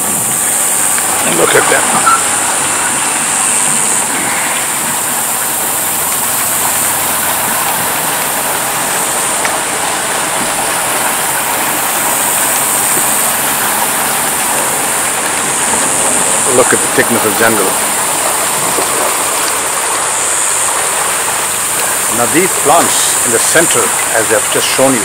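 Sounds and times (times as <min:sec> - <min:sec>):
boat motor running: 0:00.0 - 0:25.0
water rushing along hull: 0:00.0 - 0:25.0.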